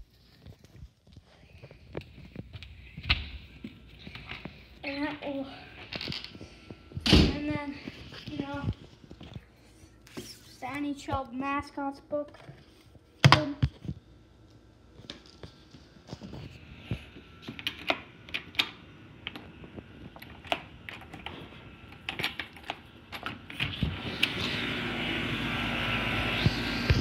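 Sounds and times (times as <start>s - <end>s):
steady outdoor hum: 0.0s - 27.0s.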